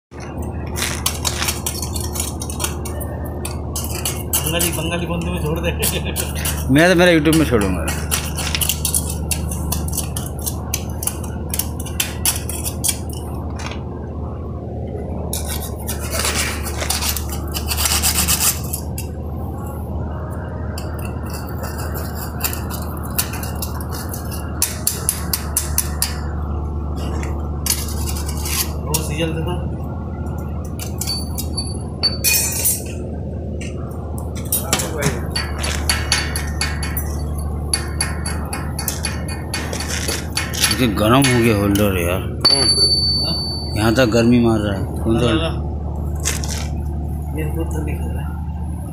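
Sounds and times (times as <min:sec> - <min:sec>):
steady low hum: 0:00.1 - 0:48.9.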